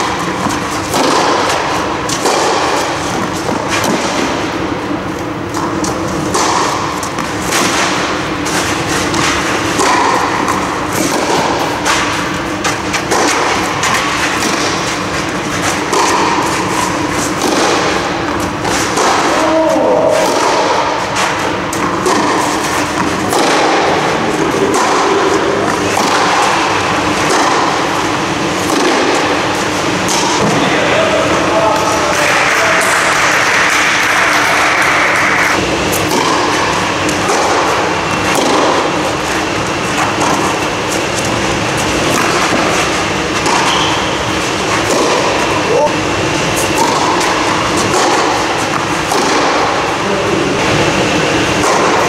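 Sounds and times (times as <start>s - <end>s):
ball bouncing on clay court: 0.0s - 30.8s, 31.6s - 50.8s
tennis ball hit by racket: 0.0s - 30.8s, 31.6s - 52.0s
steady background hum: 0.0s - 52.0s.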